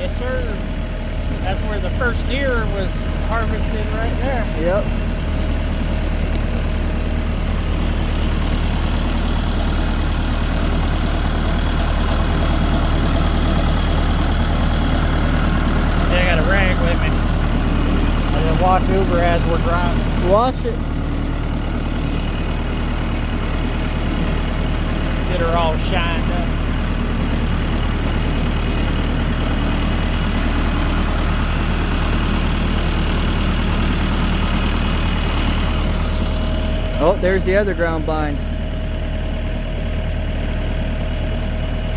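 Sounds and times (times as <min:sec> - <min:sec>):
vehicle engine low hum: 0:00.0 - 0:41.9.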